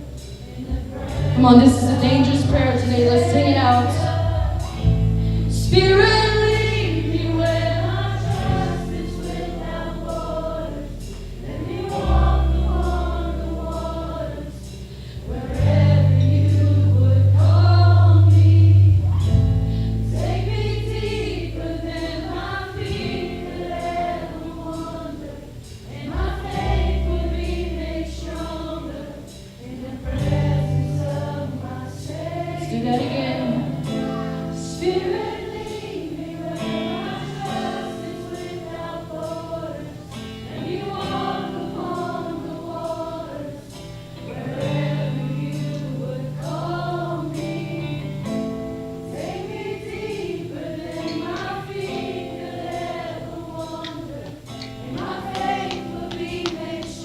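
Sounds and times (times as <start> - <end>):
voices singing: 0.0 - 57.0
worship band playing: 0.0 - 57.0.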